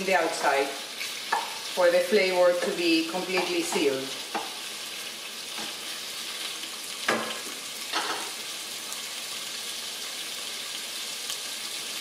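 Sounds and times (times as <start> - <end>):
shrimp sizzling in a frying pan: 0.0 - 12.0.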